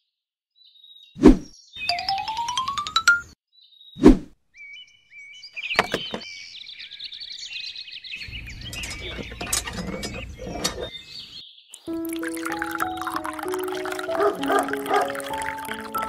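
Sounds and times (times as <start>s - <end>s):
small birds chirping: 0.6s - 2.9s, 3.5s - 16.0s.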